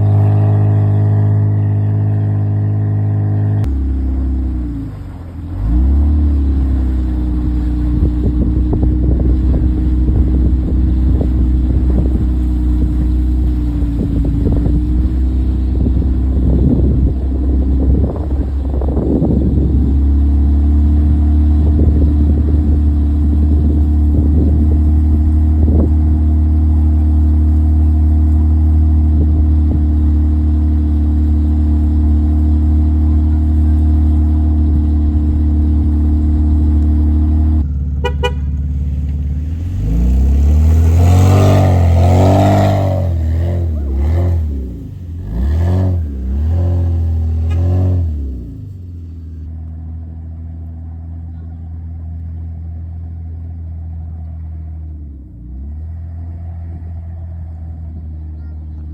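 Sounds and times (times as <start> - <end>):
vehicle engine droning and revving: 0.0 - 58.9.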